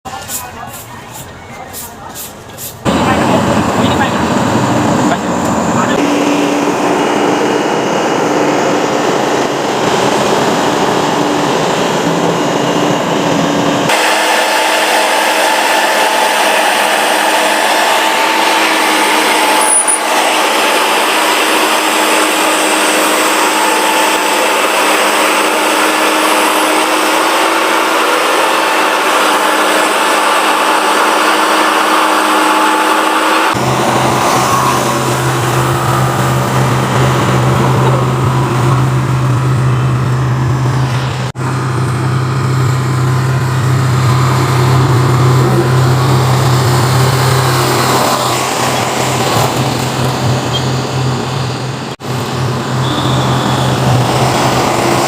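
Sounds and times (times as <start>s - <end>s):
road construction machinery: 0.0s - 55.0s.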